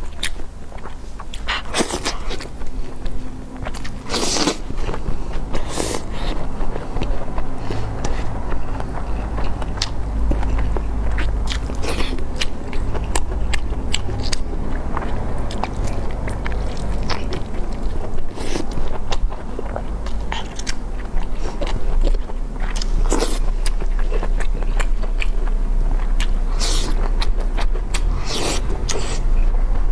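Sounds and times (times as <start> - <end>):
wet chewing and mouth smacks: 0.0 - 29.3
low hum: 0.0 - 29.9.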